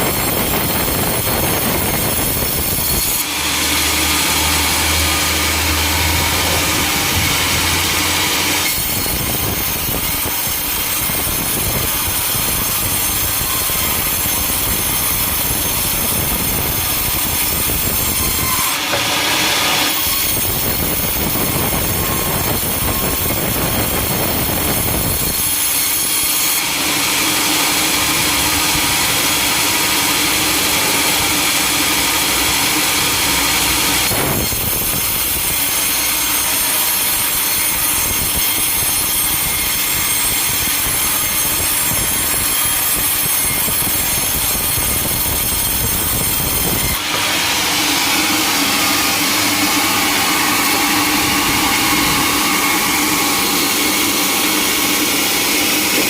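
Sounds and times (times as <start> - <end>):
sawmill machinery running: 0.0 - 56.0
saws cutting timber: 0.0 - 56.0.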